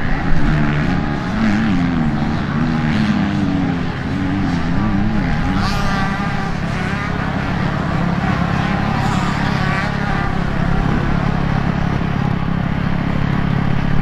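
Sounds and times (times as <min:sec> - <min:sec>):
motorcycle engines buzzing: 0:00.0 - 0:14.0.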